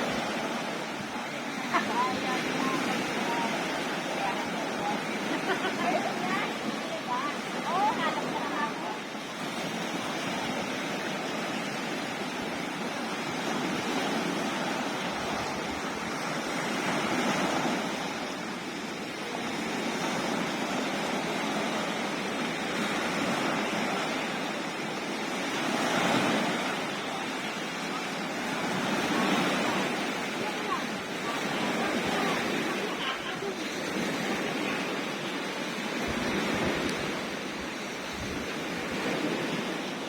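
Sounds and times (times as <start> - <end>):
sea waves washing in: 0.0 - 40.0.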